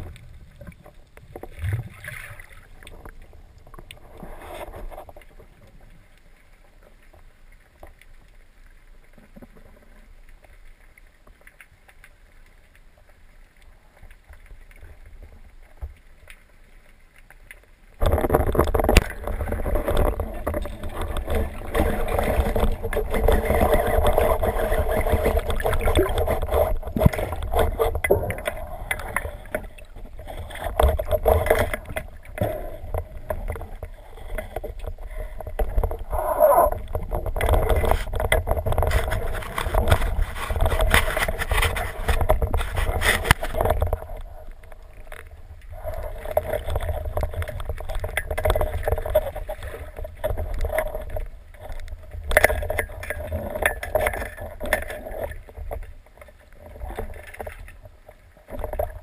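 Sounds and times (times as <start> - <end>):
underwater water rumble: 0.0 - 59.0.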